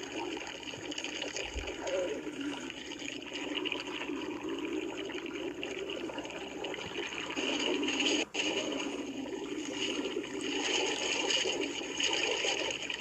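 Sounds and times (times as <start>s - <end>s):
watery stomach gurgling: 0.0s - 13.0s.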